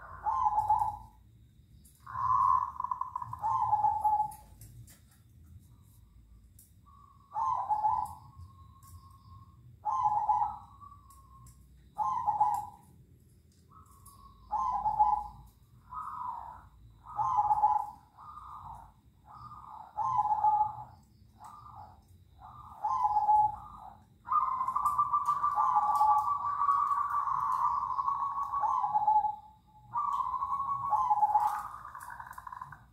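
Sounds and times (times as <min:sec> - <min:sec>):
doves cooing: 0:00.0 - 0:01.2, 0:01.9 - 0:05.1, 0:06.9 - 0:13.0, 0:13.6 - 0:32.9.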